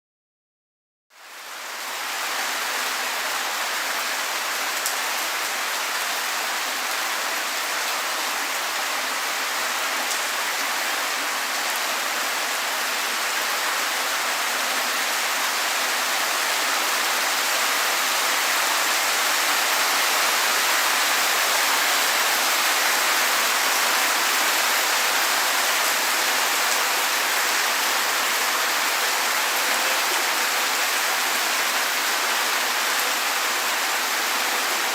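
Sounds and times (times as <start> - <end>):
heavy rain on streets: 1.1 - 34.9.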